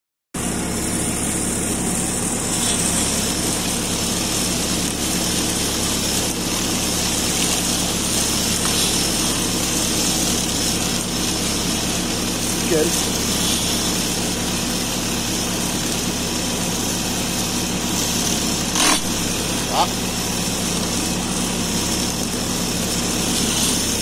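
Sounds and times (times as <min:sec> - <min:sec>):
steady high hiss: 0:00.4 - 0:24.0
tractor engine running: 0:00.4 - 0:24.0.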